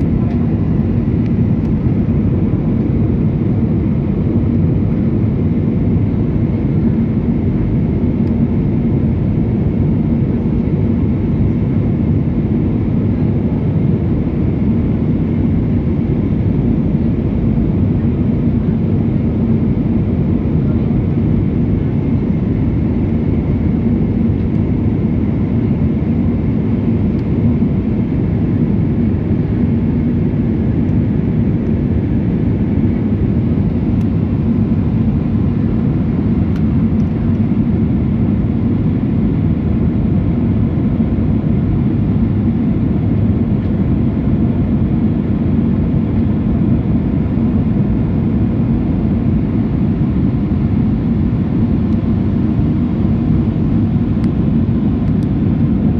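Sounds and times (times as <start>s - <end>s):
constant low hum: 0.0s - 55.9s
jet engine rumble in cabin: 0.0s - 55.9s.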